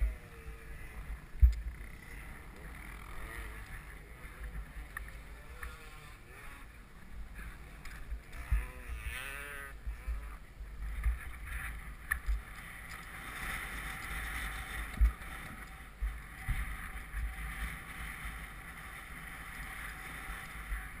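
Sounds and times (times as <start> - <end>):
motocross bike engine running: 0.0 - 21.0.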